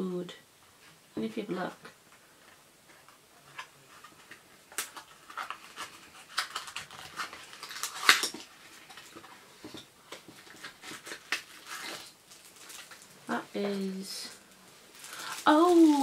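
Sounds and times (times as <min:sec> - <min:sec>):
paper packing rustling: 0:02.9 - 0:16.0.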